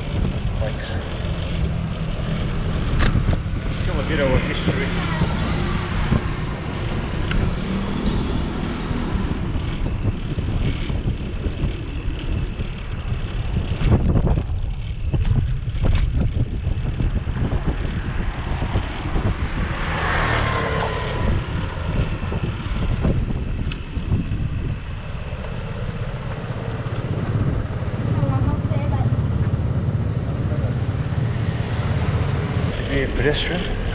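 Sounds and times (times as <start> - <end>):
bicycle rattling: 0.0 - 4.8, 5.9 - 19.9, 20.7 - 30.8
wind rumbling on microphone: 0.0 - 33.9.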